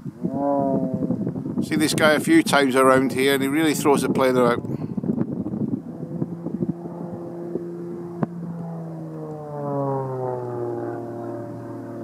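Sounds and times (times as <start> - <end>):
propeller plane flying overhead: 0.0 - 12.0.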